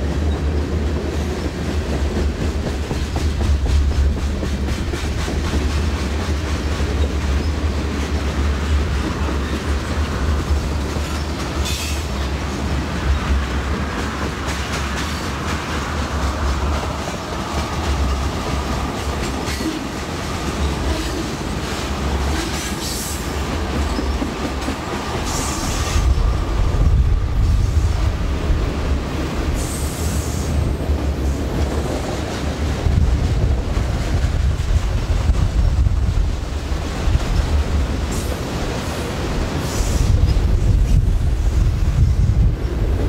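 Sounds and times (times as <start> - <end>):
freight train rumbling: 0.0 - 43.0
wind buffeting microphone: 0.0 - 43.0.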